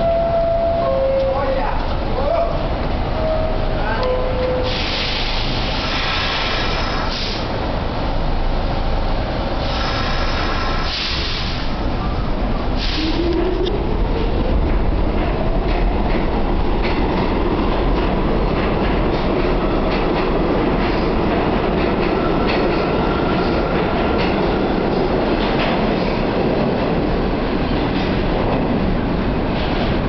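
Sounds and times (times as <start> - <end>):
train rumble: 0.0 - 30.0.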